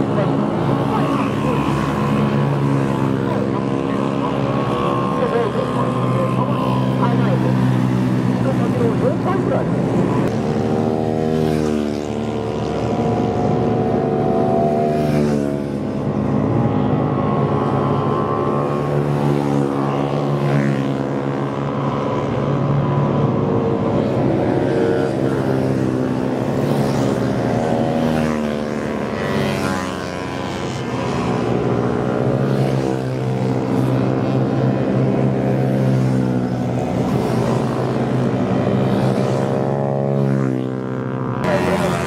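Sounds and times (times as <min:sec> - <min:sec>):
motorbikes passing at high revs: 0:00.0 - 0:42.0.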